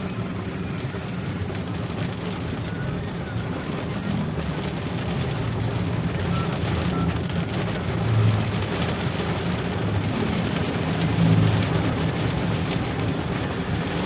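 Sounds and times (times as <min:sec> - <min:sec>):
road noise of vehicles: 0:00.0 - 0:14.0.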